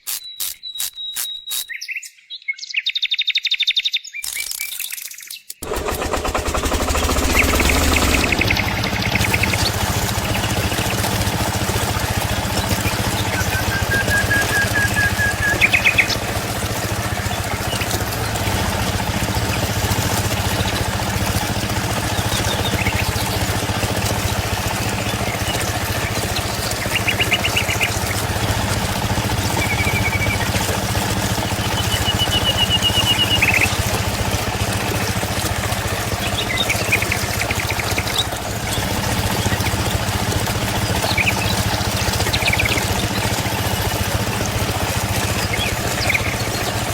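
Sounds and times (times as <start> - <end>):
birds chirping and trilling: 0.0 - 33.9, 36.0 - 46.9.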